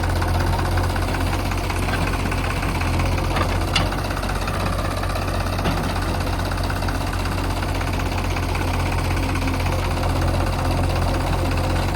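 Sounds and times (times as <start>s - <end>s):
diesel engine running at low speed: 0.0s - 11.9s.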